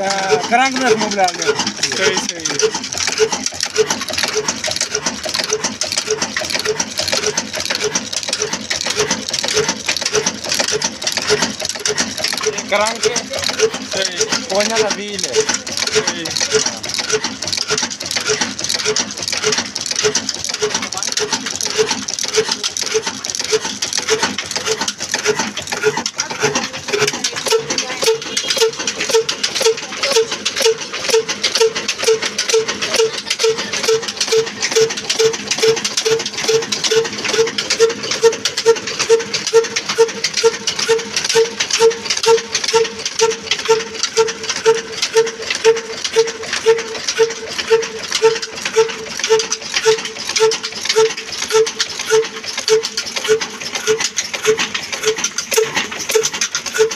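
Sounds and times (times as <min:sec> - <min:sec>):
diesel engine running: 0:00.0 - 0:56.9
pulleys clicking and clattering: 0:00.0 - 0:56.9.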